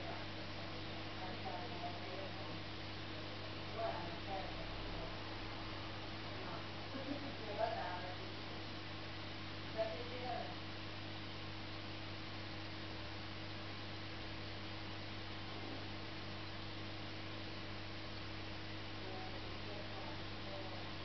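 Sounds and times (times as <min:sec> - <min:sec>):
low electrical hum: 0:00.0 - 0:21.0
soft hiss: 0:00.0 - 0:21.0.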